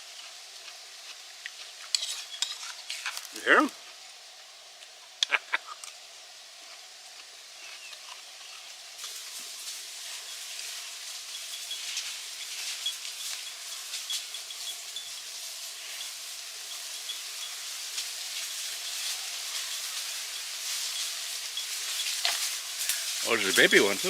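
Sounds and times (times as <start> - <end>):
fire crackling and popping: 0.0 - 4.2, 6.7 - 24.0
steak sizzling: 0.0 - 24.0.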